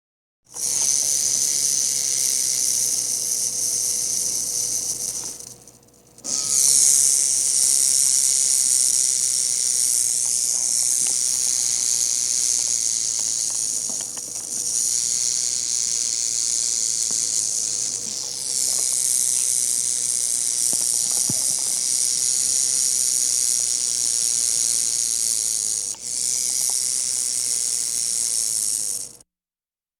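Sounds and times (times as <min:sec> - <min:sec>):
rattlesnake rattling: 0:00.5 - 0:29.2.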